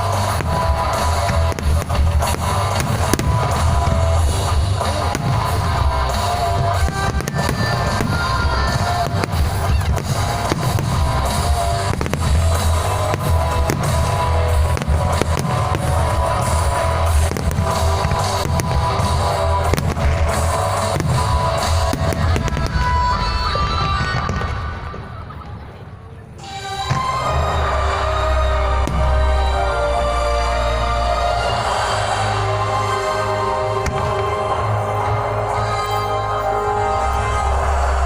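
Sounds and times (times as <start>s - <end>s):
loud bass-heavy music: 0.0s - 24.2s, 26.4s - 38.0s
fireworks bangs and crackles: 0.0s - 38.0s.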